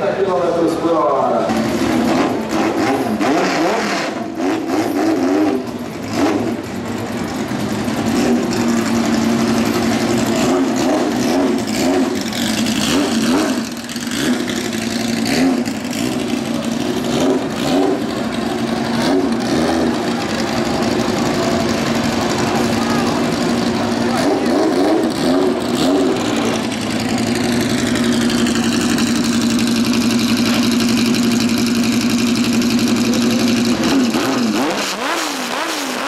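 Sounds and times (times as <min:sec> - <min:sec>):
engine throttle blips: 0:00.0 - 0:36.0
racing car engine idling: 0:00.0 - 0:36.0.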